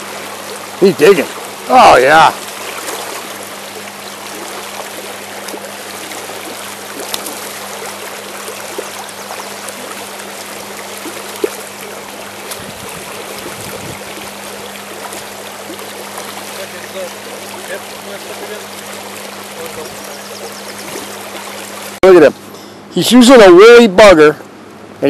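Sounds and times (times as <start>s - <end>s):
river water rushing over stones: 0.0s - 22.2s.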